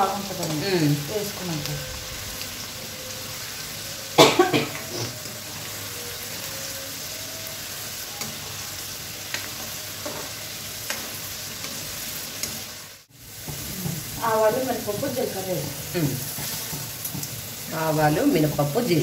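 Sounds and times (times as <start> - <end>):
garlic sizzling in hot oil: 0.0 - 19.0.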